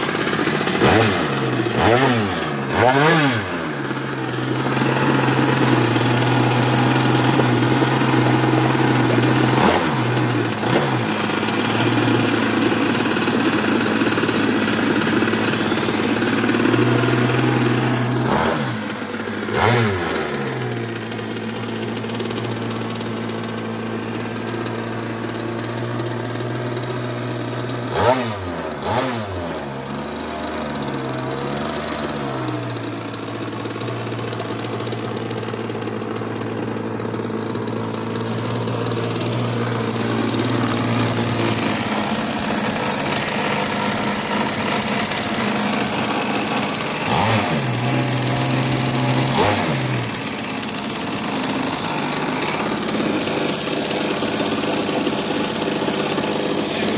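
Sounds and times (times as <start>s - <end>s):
two-stroke engine revving: 0.0s - 56.9s.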